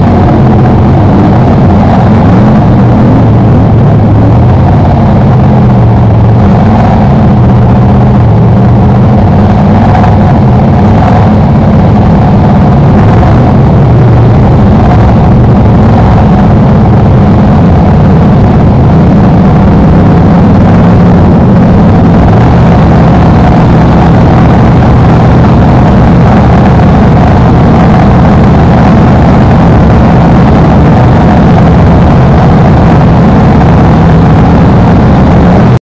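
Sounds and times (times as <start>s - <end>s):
race car engine running: 0.0s - 35.8s.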